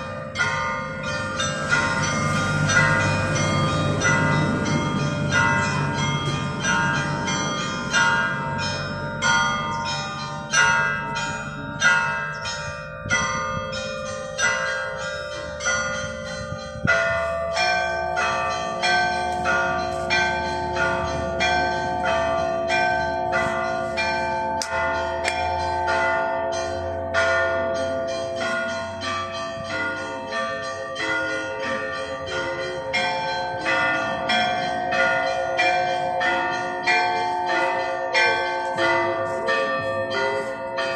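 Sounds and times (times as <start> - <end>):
large bells ringing: 0.0 - 40.9.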